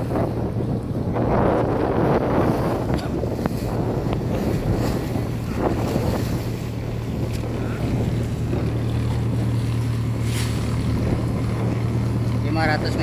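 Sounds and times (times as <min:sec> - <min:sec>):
motor boat engine droning: 0:00.0 - 0:13.0
waves splashing against hull: 0:00.0 - 0:13.0
wind buffeting microphone: 0:00.0 - 0:13.0.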